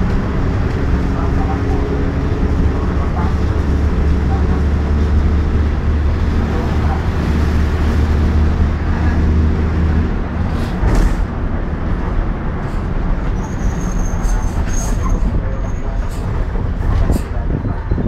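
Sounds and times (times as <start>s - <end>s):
bus body knocking and rattling: 0.0s - 18.0s
bus engine drone: 0.0s - 18.0s
road rumble: 0.0s - 18.0s.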